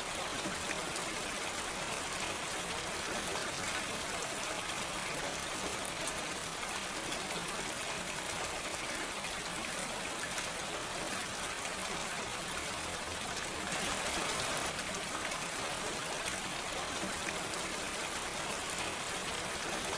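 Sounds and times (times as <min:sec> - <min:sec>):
rain falling: 0:00.0 - 0:19.9.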